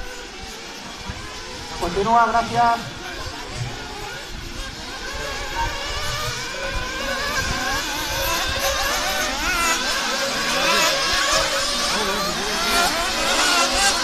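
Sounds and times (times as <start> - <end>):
rc car engines whining: 0.0 - 14.0.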